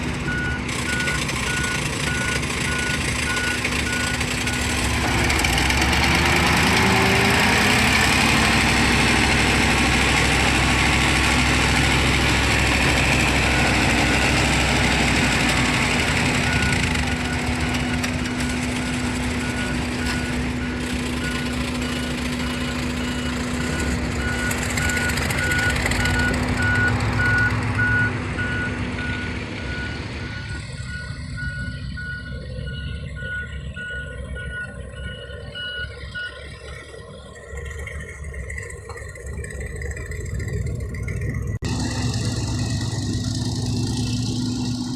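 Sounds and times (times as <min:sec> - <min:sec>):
reversing alarm beeping: 0:00.0 - 0:37.4
diesel truck engine running: 0:00.0 - 0:44.9.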